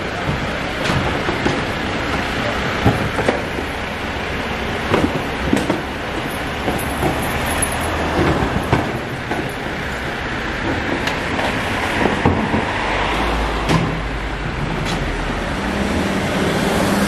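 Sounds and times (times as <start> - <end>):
garbage truck engine rumble: 0.0 - 17.0
passing traffic: 0.0 - 17.0
wheelie bins clunking and rattling: 0.0 - 17.0.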